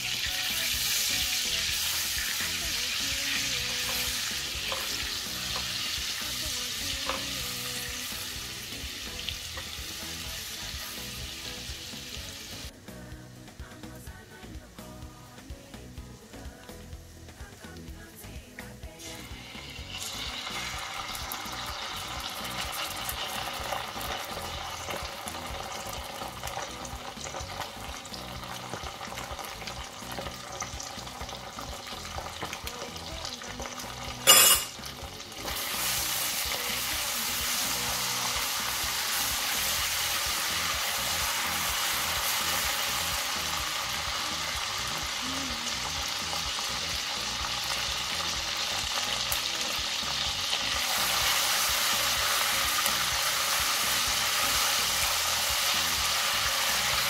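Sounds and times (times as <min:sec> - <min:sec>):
tomato paste sizzling in butter: 0:00.0 - 0:57.0.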